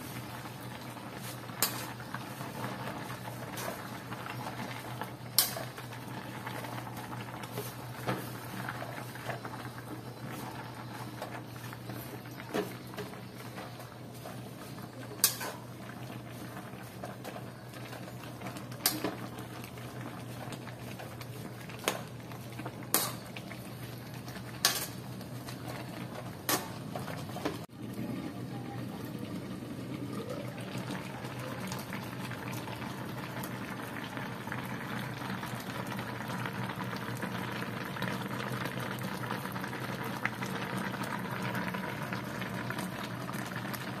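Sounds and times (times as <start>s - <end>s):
pot simmering and bubbling: 0.0s - 44.0s.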